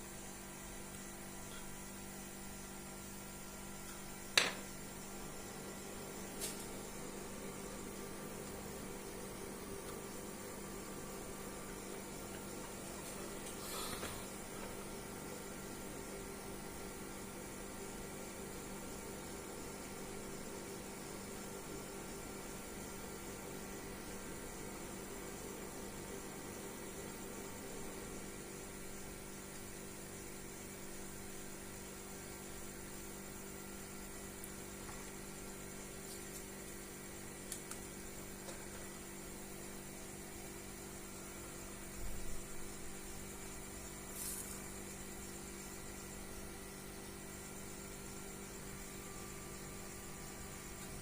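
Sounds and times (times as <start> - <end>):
low electrical hum: 0.0 - 51.0.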